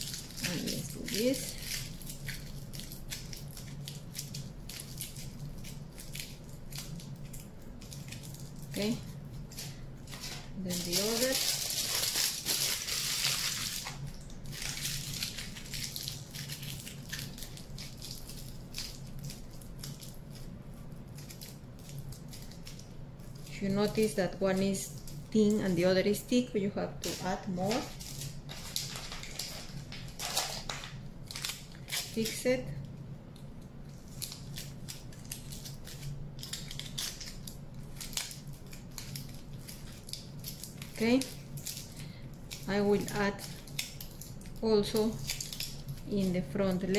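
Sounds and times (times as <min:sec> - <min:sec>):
aluminium foil crinkling: 0:00.0 - 0:46.9.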